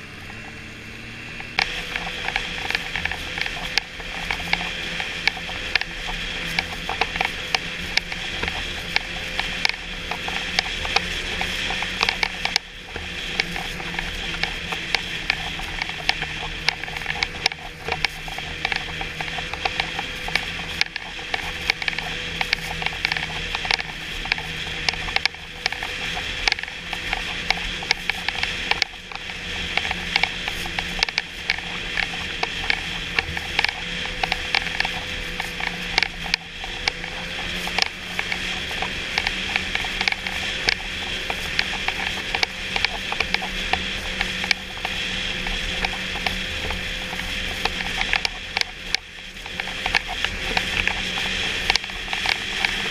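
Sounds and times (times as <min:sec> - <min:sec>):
snowmobile engine drone: 0:00.0 - 0:52.9
clicking and rattling: 0:01.4 - 0:52.9.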